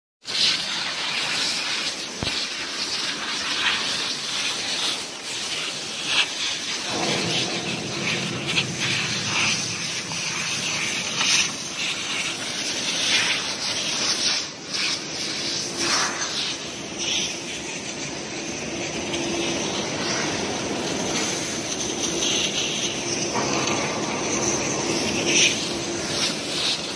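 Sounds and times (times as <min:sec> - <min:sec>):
hose jetting water hiss: 0:00.3 - 0:26.9.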